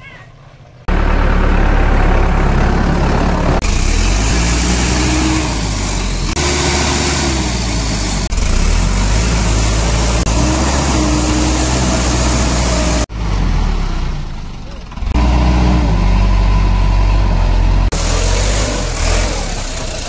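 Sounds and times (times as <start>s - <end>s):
heavy diesel engine running: 0.5s - 20.0s.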